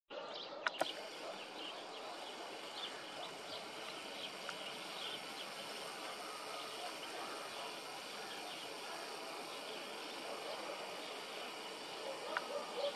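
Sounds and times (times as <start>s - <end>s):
steady outdoor hiss: 0.2s - 12.9s.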